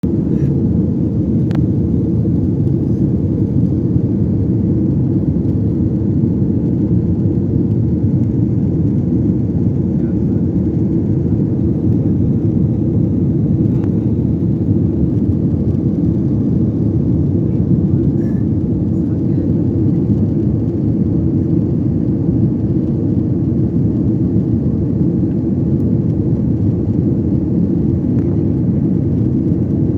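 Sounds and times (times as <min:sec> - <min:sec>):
airliner cabin rumble: 0:00.0 - 0:29.9.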